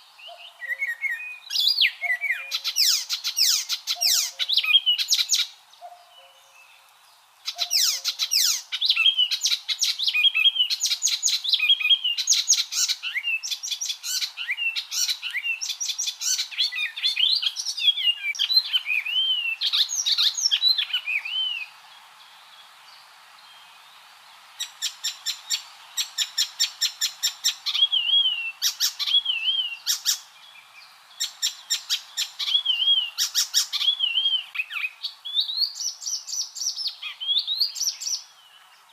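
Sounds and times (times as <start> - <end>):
warbler singing: 0.0 - 23.9, 24.6 - 38.9.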